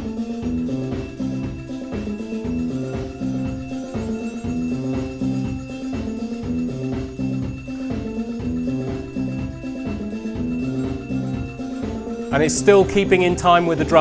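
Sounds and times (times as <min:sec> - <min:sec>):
fast drum kit: 0:00.0 - 0:14.0
glockenspiel notes: 0:00.3 - 0:14.0.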